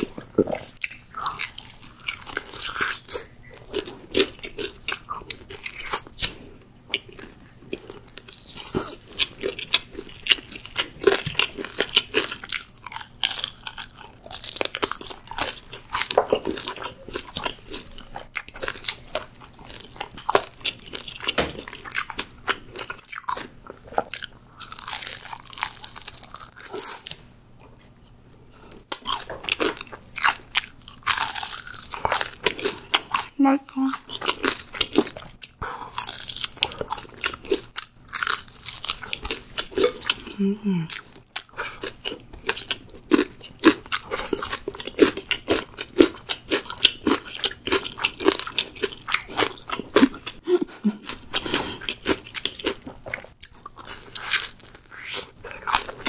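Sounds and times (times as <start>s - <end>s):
crunchy chewing of fried chicken: 0.0s - 56.0s.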